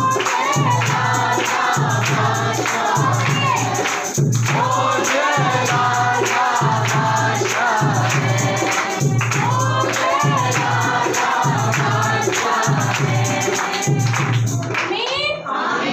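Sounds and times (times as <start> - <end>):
group singing a worship song: 0.0 - 15.9.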